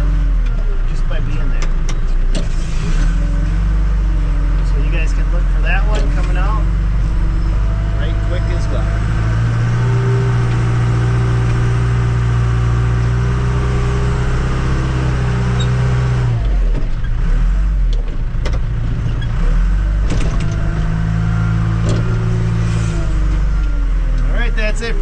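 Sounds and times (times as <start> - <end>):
backhoe engine running: 0.0 - 25.0.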